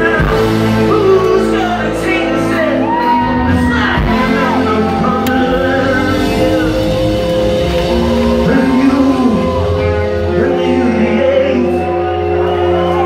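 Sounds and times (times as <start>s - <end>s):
lead vocal holding wavering notes: 0.0s - 13.0s
live rock band playing: 0.0s - 13.0s.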